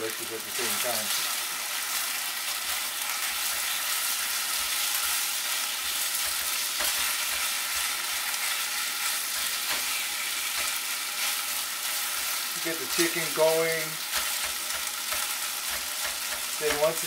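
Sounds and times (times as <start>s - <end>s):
chicken sizzling in hot oil: 0.0s - 17.0s
spatula scraping pan: 2.6s - 17.0s.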